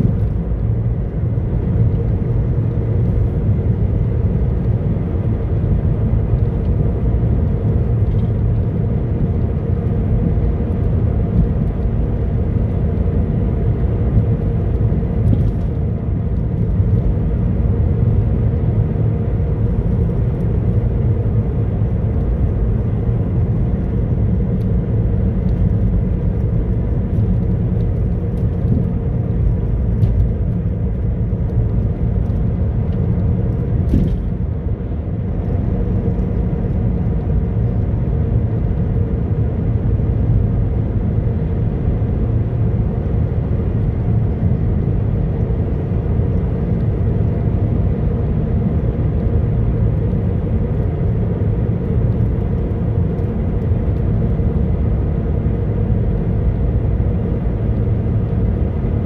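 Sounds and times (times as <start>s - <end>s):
car engine: 0.0s - 59.0s
tyre and road noise: 0.0s - 59.0s.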